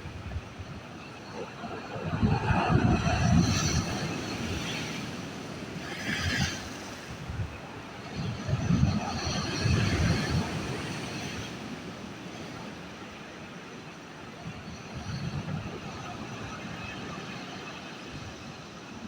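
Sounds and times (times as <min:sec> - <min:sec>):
waves surging and breaking: 0:00.0 - 0:19.0.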